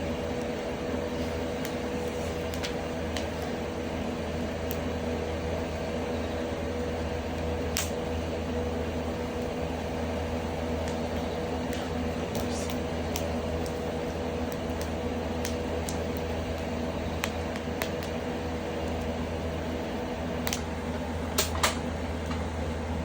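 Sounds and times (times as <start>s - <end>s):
firewood crackling: 0.0s - 22.8s
extractor fan humming: 0.0s - 23.0s.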